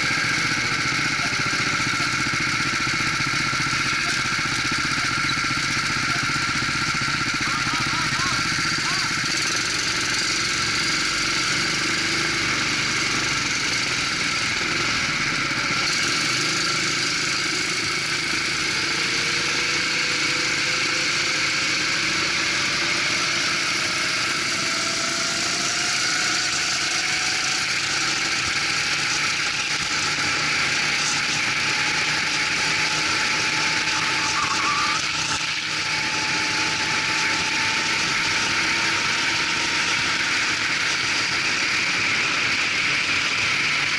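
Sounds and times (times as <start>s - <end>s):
constant rushing noise: 0.0s - 43.9s
go-kart engine accelerating: 0.0s - 43.9s.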